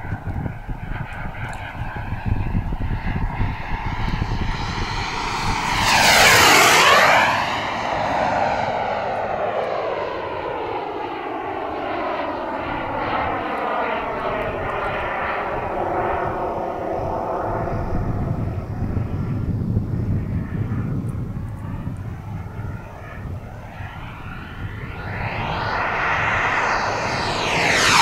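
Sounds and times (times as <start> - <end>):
model jet flying past: 0.0 - 28.0.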